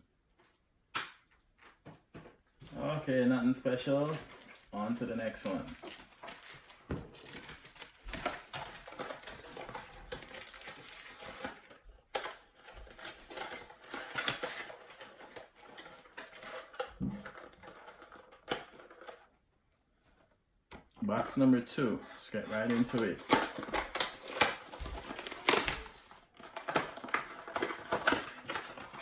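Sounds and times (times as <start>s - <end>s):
cardboard packaging being handled: 1.6s - 19.3s, 21.2s - 29.0s.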